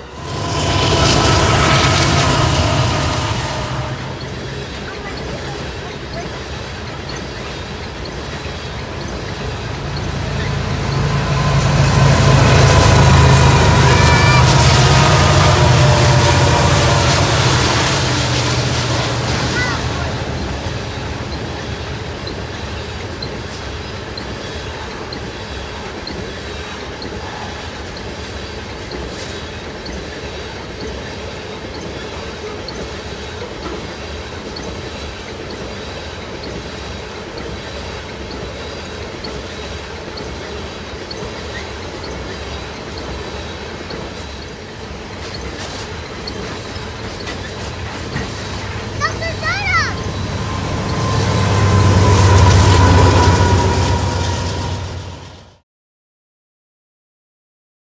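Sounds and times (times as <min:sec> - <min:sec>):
train wheels rolling on rails: 0:00.0 - 0:55.6
thin wheel squeal: 0:00.1 - 0:55.4.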